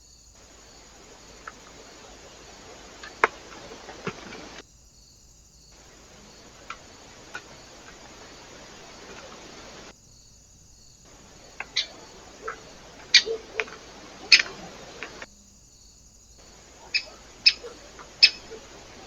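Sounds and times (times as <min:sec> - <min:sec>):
faint microphone hiss: 0:00.0 - 0:19.0.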